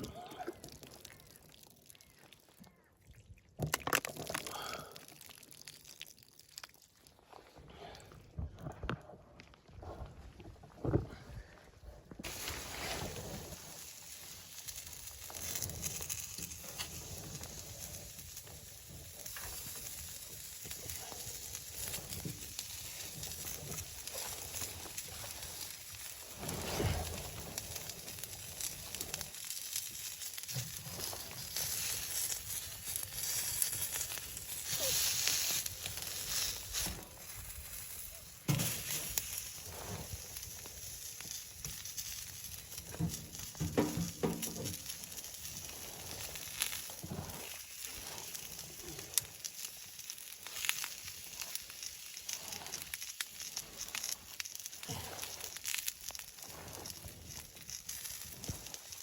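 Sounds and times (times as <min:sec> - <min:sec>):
wood fire crackling: 0:00.0 - 0:02.6, 0:03.7 - 0:59.0.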